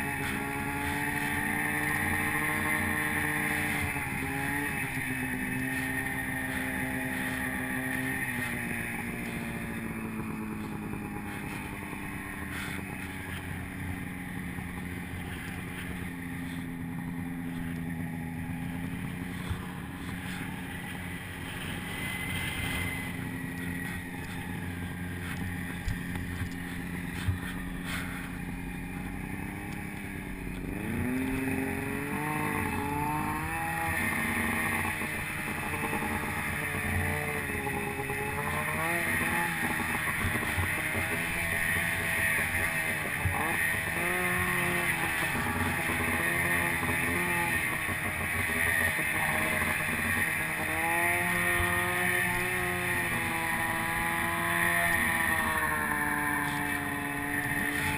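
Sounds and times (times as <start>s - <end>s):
snowmobile engine revving: 0.0s - 57.9s.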